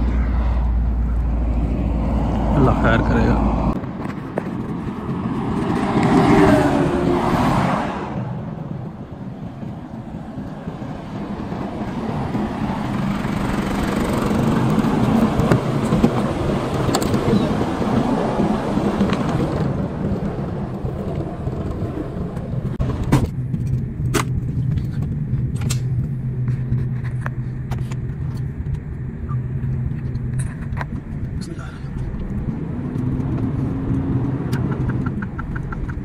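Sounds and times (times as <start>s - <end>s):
diesel engine droning: 0.0s - 36.0s
rushing wind and road noise: 0.0s - 36.0s.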